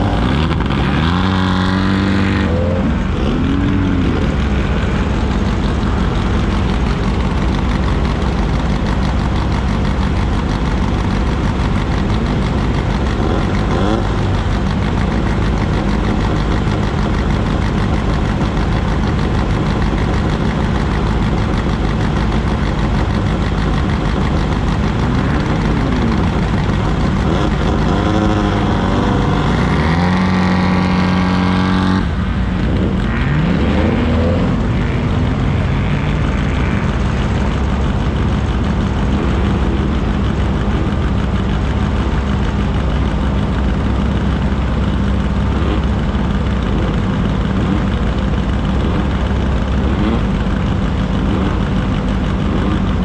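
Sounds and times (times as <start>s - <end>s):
race vehicle engine revving: 0.0s - 53.0s.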